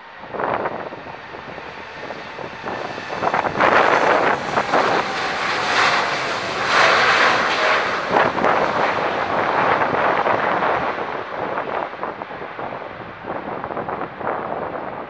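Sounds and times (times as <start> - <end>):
jet aircraft taking off: 0.0 - 15.0.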